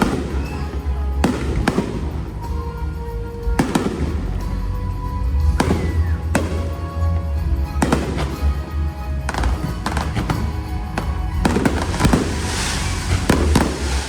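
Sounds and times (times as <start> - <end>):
fireworks bursting with bangs: 0.0 - 14.0
music with heavy bass: 0.0 - 14.0.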